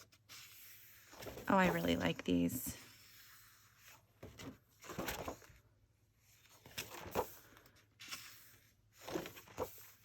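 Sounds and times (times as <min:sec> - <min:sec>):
paper pages turning: 0:00.0 - 0:02.2, 0:02.8 - 0:10.0.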